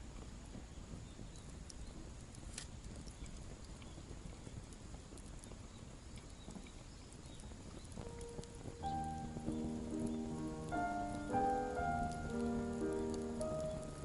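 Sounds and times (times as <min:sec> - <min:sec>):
fire popping and cracking: 0:00.0 - 0:14.0
wood fire crackling: 0:00.0 - 0:14.0.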